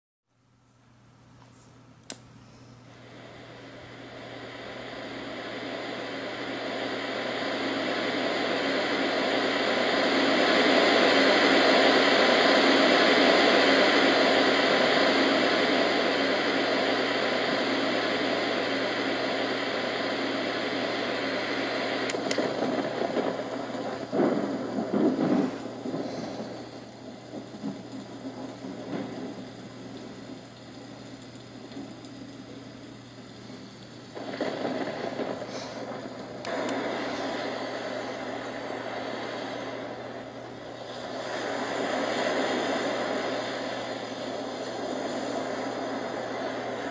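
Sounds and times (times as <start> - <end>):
speaker crackles: 0.8 - 46.9.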